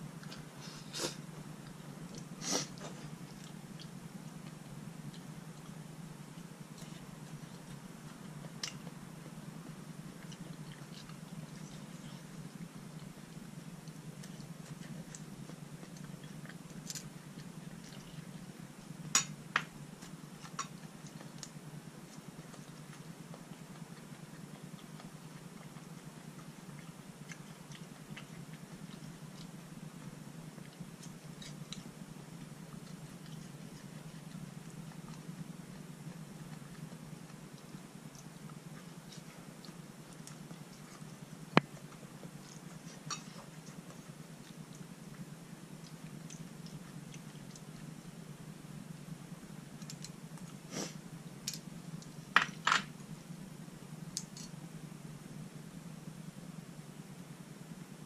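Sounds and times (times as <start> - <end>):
steady low hum: 0.0 - 58.0
person chewing food: 0.1 - 48.2, 49.7 - 52.6.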